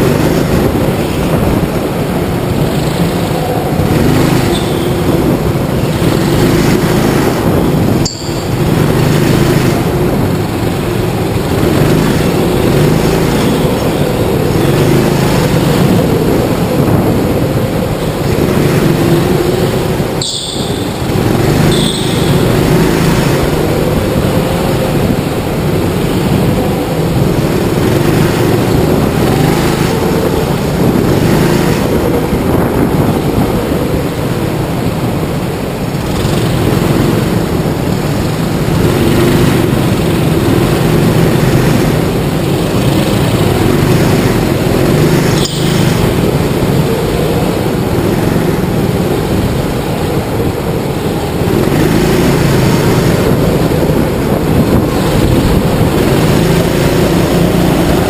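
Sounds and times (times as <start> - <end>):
go-kart engine racing: 0.0 - 58.0
other karts running: 0.0 - 58.0.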